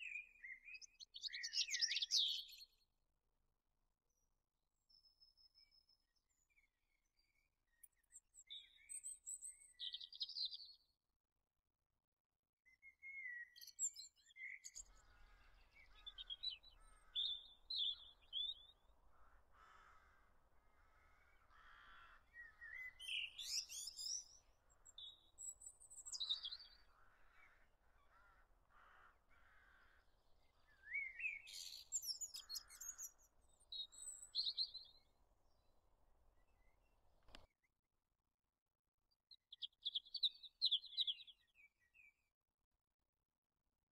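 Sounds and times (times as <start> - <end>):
songbirds chirping and trilling: 0.0 - 2.8, 5.0 - 10.9, 12.7 - 37.5, 39.3 - 42.2.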